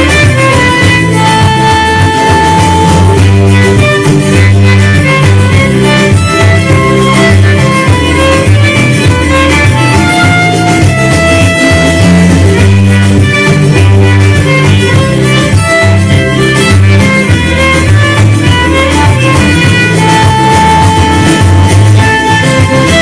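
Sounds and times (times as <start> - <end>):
instrumental music with bass line: 0.0 - 23.0.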